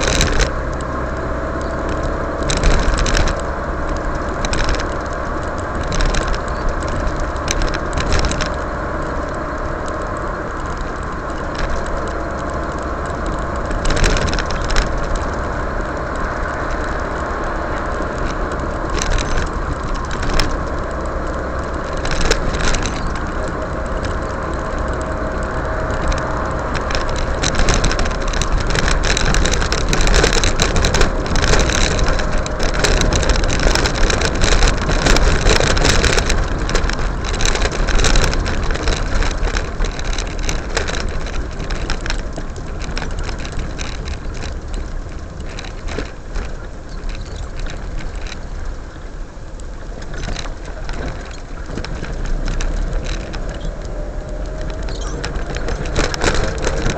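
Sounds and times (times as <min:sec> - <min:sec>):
car engine and tyre rumble: 0:00.0 - 0:56.9
clicks and crackles: 0:00.0 - 0:56.9.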